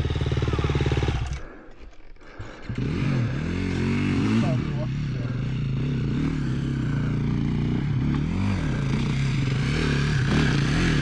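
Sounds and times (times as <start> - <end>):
dirt bike engine revving: 0.0 - 1.7, 2.4 - 11.0
dirt bike engine idling: 0.0 - 11.0.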